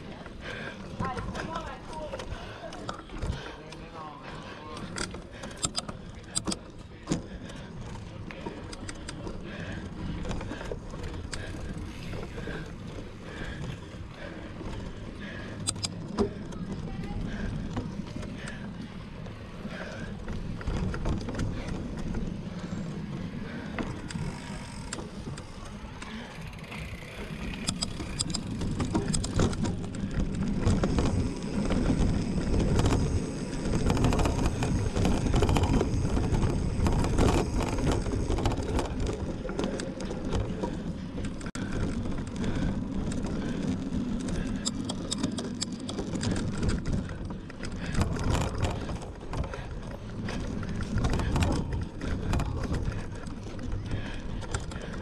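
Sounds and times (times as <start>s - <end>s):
bike rattles and clicks: 0.0s - 55.0s
bike tyres rumbling on dirt trail: 0.0s - 55.0s.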